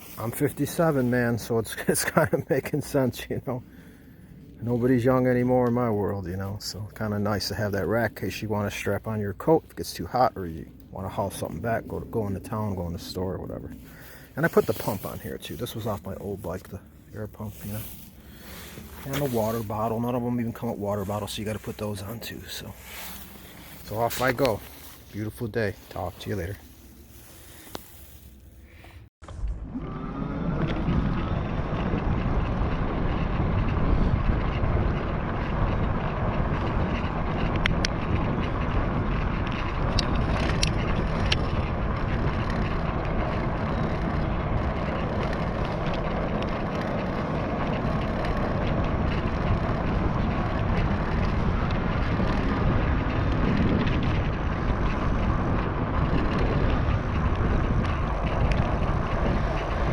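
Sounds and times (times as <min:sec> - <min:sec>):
wind rushing on microphone: 0:00.0 - 0:28.0, 0:28.7 - 0:59.9
bike tyres rolling over ground: 0:00.0 - 0:59.9.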